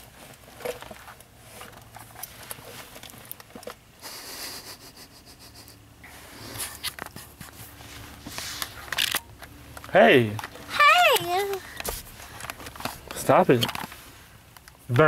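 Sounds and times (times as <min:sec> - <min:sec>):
small handling clicks and rustles: 0:00.0 - 0:03.9, 0:06.5 - 0:15.0.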